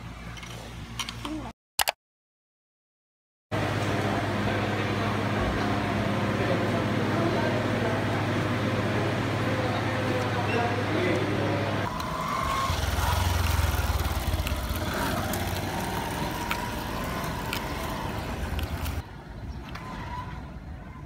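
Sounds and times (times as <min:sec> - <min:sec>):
traffic rumble and road noise: 0:00.0 - 0:01.5, 0:03.6 - 0:21.0.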